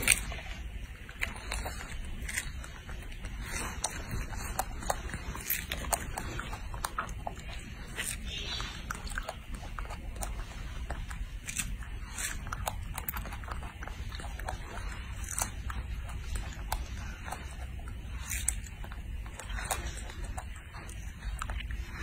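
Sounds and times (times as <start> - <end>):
monkey chewing and smacking: 0.0 - 22.0.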